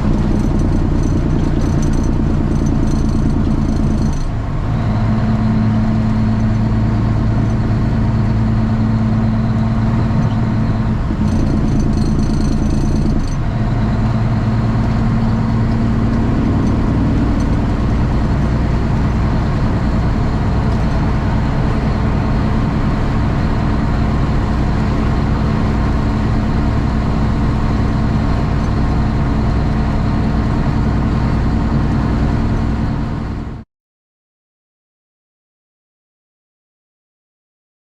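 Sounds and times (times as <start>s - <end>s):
diesel truck engine running: 0.0s - 33.6s.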